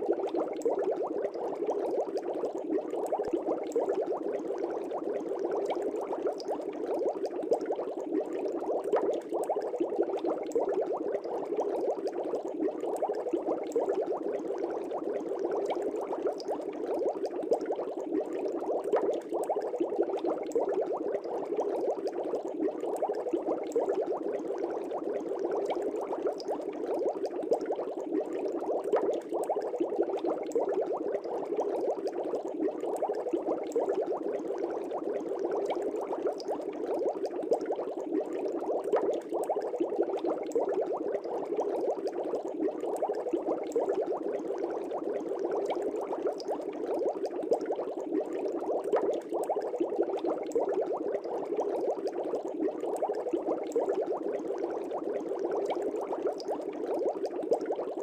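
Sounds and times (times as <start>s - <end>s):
aquarium air bubbles: 0.0s - 58.0s.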